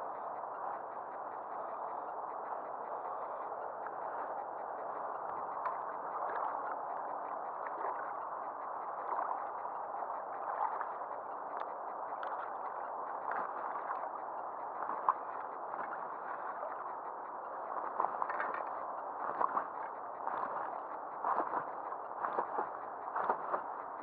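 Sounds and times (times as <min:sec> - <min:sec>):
water ripples lapping against boat: 0:00.1 - 0:24.0.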